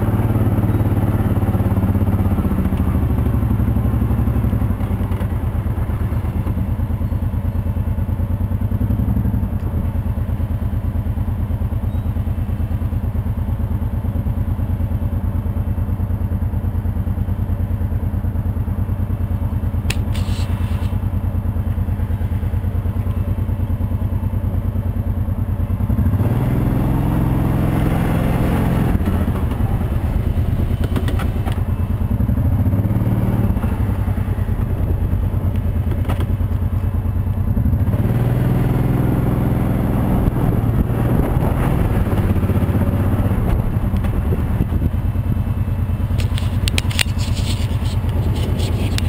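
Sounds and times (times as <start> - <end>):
atv engine running: 0.0 - 49.0.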